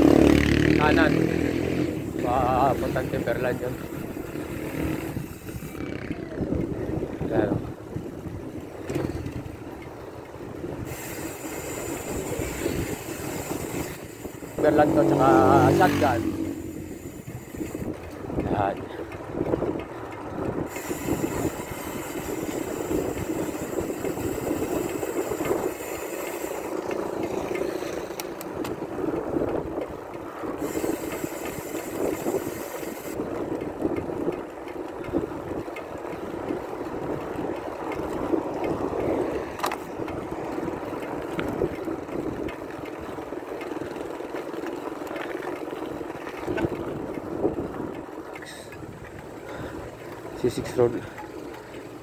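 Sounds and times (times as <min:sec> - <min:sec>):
wind rushing over microphone: 0:00.0 - 0:51.3
tyre noise on paved road: 0:00.0 - 0:52.0.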